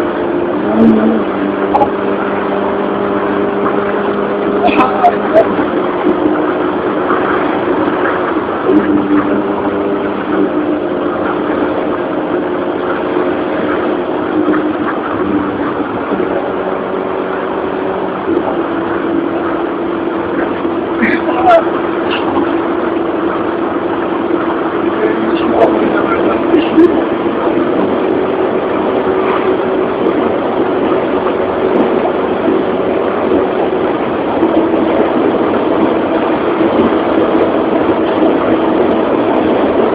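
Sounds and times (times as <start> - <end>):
car engine running: 0.0 - 39.9
road and wind noise: 0.0 - 39.9
vehicle noise: 0.0 - 39.9.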